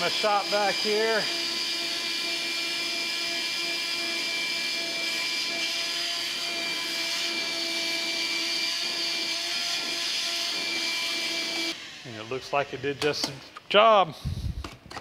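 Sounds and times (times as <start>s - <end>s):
shop vacuum whining: 0.0s - 13.6s.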